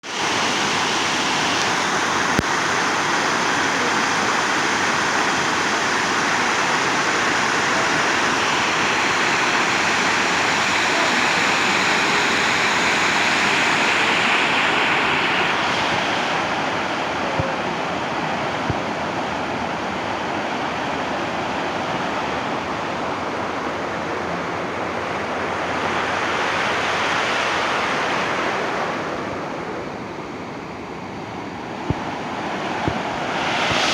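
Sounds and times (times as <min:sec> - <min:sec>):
rushing waterfall: 0:00.0 - 0:33.9.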